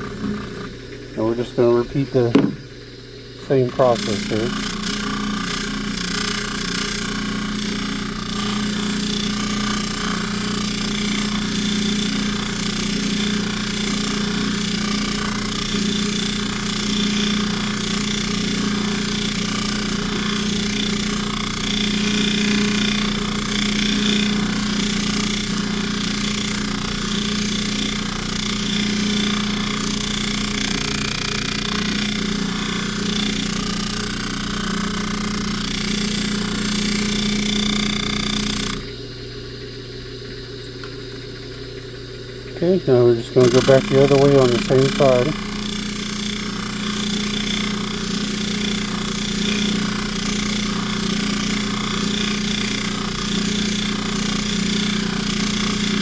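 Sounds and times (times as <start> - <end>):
polishing motor hum: 0.0 - 39.8, 40.5 - 56.0.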